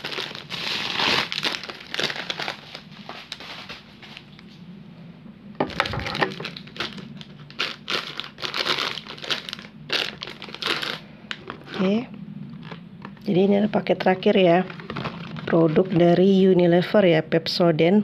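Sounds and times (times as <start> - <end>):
plastic wrapping crinkling: 0.0 - 4.5, 5.6 - 16.2.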